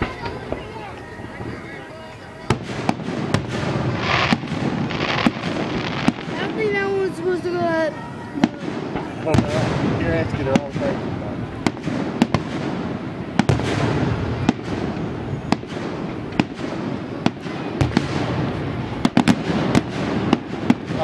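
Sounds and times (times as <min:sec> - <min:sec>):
background fireworks din: 0:00.0 - 0:21.0
fireworks bangs: 0:00.0 - 0:21.0.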